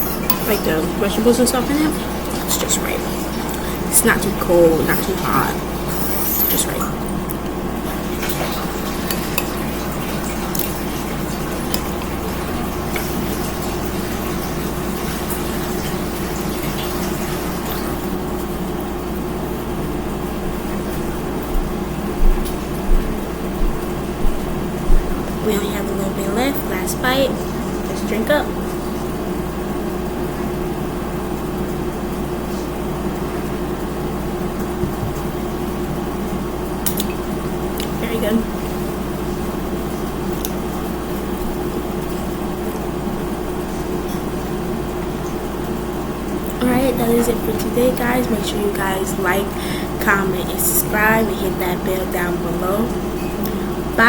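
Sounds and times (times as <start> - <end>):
steady hum and hiss: 0.0 - 54.0.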